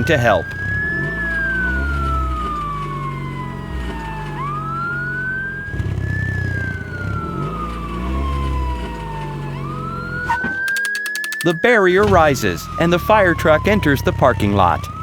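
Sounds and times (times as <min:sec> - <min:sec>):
fire truck siren wailing: 0:00.0 - 0:15.0.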